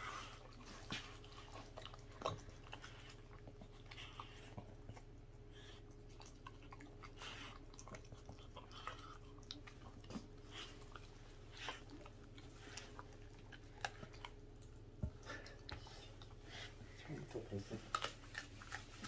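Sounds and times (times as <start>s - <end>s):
dog chewing wet meat: 0.0s - 19.0s.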